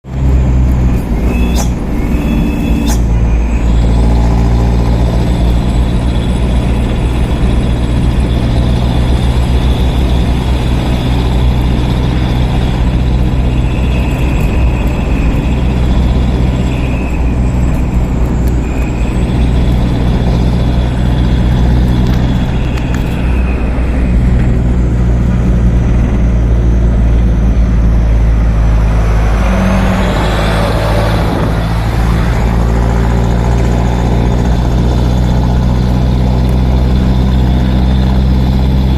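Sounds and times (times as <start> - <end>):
heavy truck engines humming: 0.0 - 38.9.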